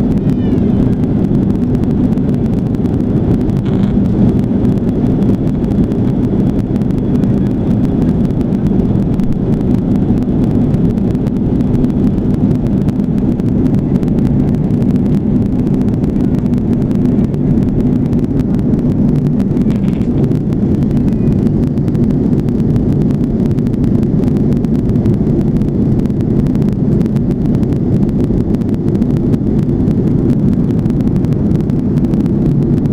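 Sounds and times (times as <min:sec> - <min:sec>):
aircraft engines droning in cabin: 0:00.0 - 0:32.9.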